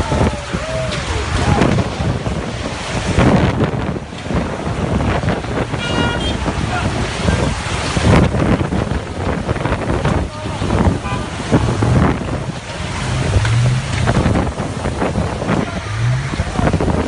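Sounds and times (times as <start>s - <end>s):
storm wind gusting on microphone: 0.0s - 17.0s.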